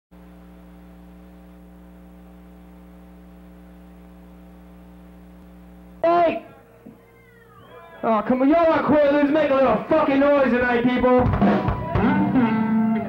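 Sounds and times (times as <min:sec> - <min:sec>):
electrical mains hum: 0:00.1 - 0:11.2.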